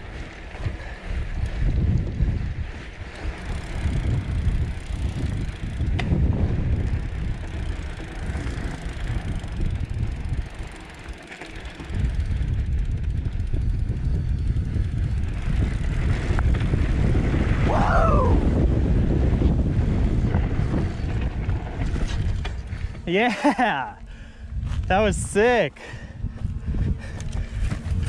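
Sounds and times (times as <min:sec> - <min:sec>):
mountain bike on dirt trail: 0:00.0 - 0:28.0
wind rumble on microphone: 0:00.0 - 0:28.0.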